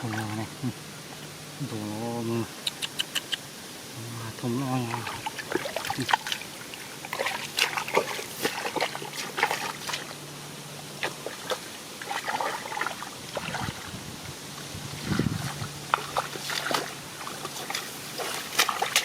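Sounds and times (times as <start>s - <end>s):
water splashing and trickling: 0.0s - 0.7s, 3.7s - 19.0s.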